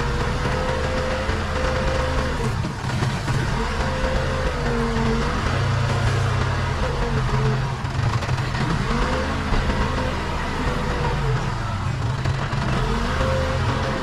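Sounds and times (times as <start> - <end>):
diesel engine running under load: 0.0 - 14.0
high rising and falling whine: 0.0 - 14.0.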